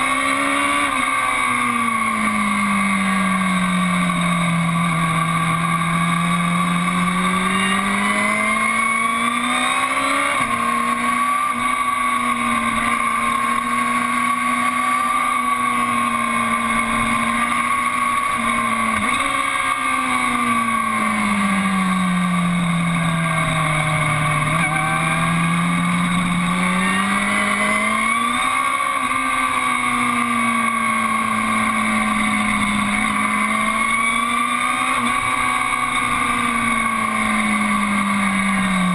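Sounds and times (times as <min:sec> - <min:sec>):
motorcycle engine running under load: 0:00.0 - 0:38.9.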